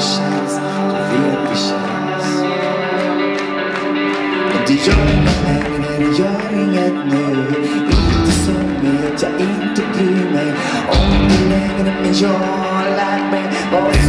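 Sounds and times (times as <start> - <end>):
man singing: 0.0 - 3.5, 4.2 - 14.0
strummed electric guitar: 0.0 - 14.0.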